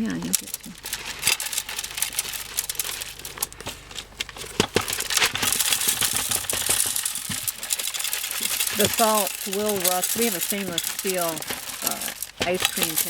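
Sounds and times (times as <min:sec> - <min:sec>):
ice and rock salt pouring: 0:00.0 - 0:13.0.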